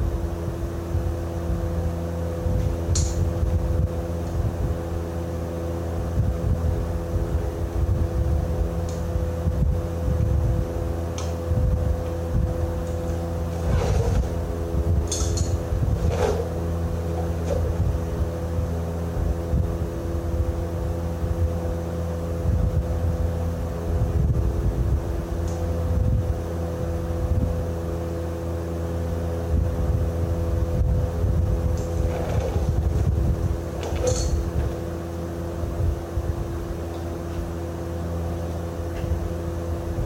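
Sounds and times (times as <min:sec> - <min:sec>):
machine drone: 0:00.0 - 0:40.0.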